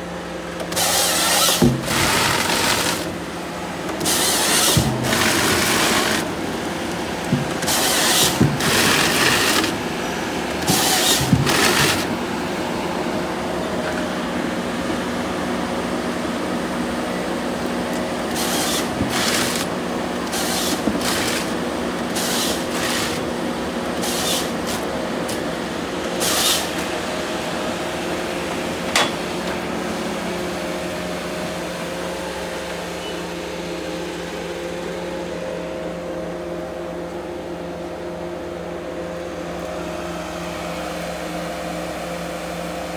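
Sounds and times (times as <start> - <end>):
forest harvester engine humming: 0.0 - 42.9.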